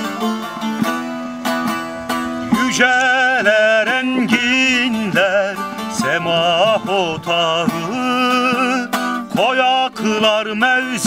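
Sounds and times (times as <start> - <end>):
instrumental accompaniment: 0.0 - 11.0
man singing folk song: 0.0 - 11.0.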